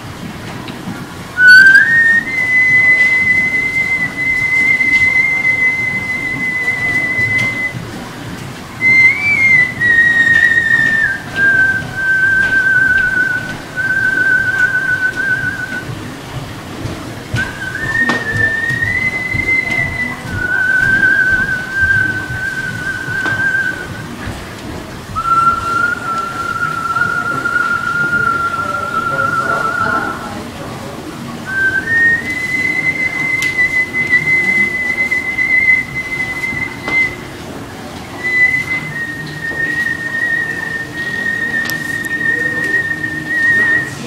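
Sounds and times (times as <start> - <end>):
man whistling: 1.4 - 7.9, 8.8 - 15.9, 17.4 - 24.2, 25.2 - 30.4, 31.5 - 44.0.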